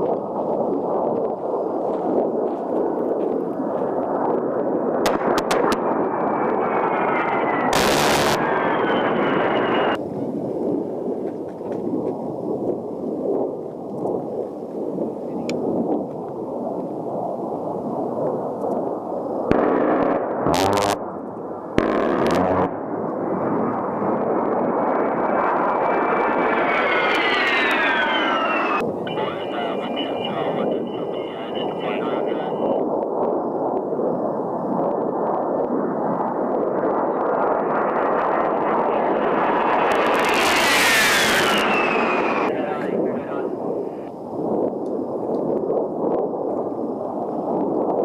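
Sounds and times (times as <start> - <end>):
jet engines passing low: 0.0 - 48.0.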